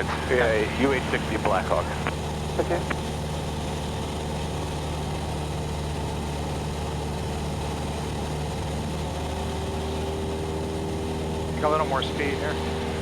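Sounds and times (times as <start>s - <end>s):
small plane engine droning: 0.0s - 13.0s.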